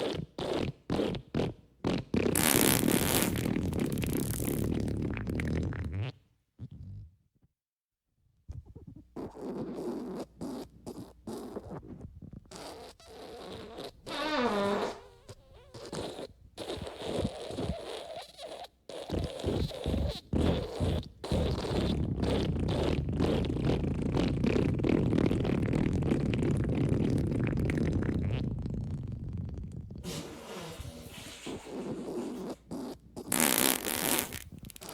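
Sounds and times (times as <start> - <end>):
long fart: 0.0 - 7.1, 8.5 - 34.9
sputtering farts: 0.0 - 7.1, 8.5 - 34.9
squeaky fart falling in pitch: 0.0 - 7.1, 8.6 - 34.9.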